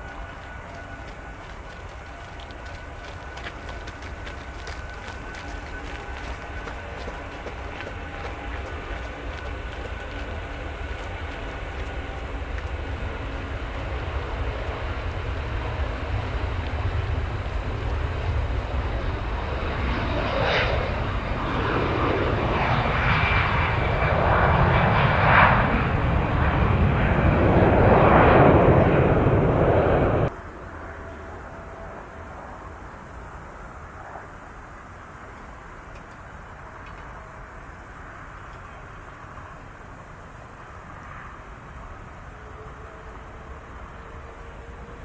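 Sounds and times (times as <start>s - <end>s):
jet airliner engines roaring: 0.0s - 45.0s.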